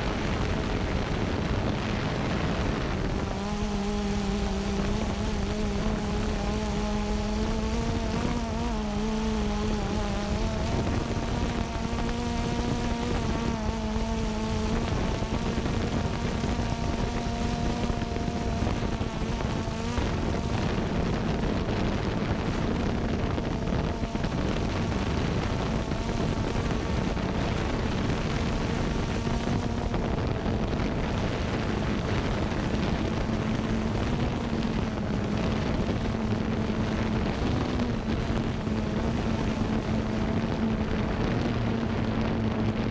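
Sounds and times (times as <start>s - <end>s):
drone propellers buzzing: 0.0s - 42.9s
propeller wash and wind rushing: 0.0s - 42.9s.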